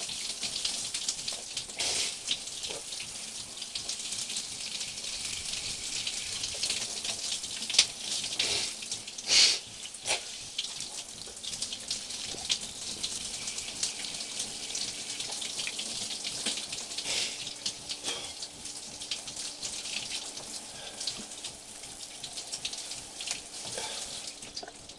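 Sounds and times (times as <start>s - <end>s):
water running and splashing: 0.0s - 24.9s.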